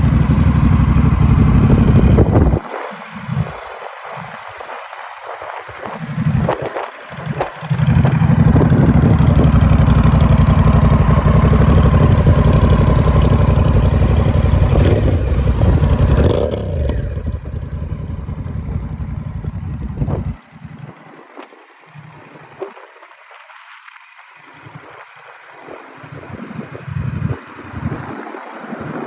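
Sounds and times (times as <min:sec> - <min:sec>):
motorcycle engine running: 0:00.0 - 0:03.6, 0:05.6 - 0:23.4, 0:24.3 - 0:29.0.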